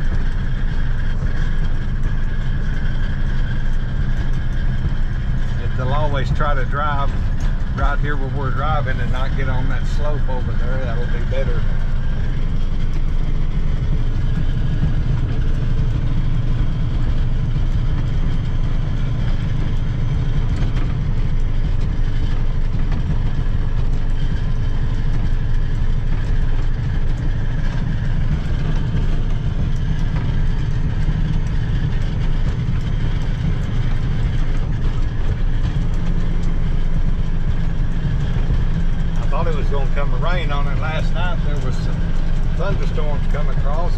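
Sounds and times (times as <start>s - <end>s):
truck engine drone: 0.0s - 43.9s
tyres on dirt road: 0.0s - 43.9s.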